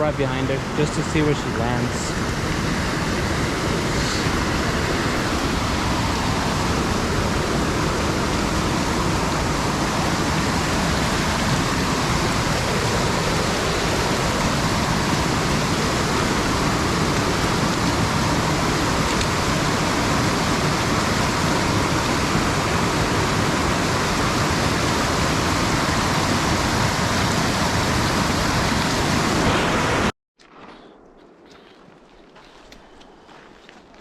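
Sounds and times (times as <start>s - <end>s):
rushing creek water: 0.0s - 29.5s.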